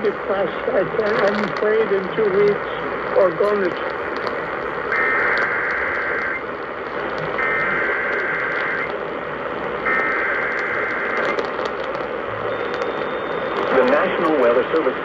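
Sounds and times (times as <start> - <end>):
radio static: 0.0 - 15.0
warbling data tones: 0.2 - 15.0.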